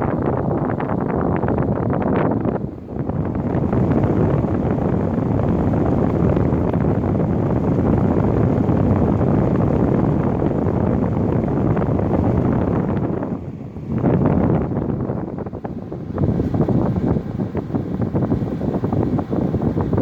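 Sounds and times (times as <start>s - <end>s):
air conditioner fan blowing: 0.0s - 20.0s.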